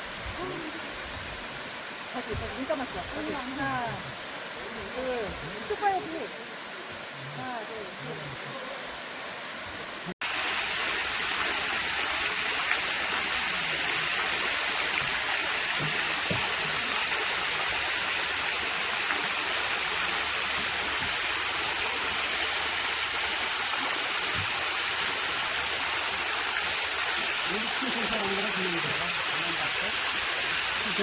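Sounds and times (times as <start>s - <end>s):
waterfall pouring: 0.0s - 31.0s.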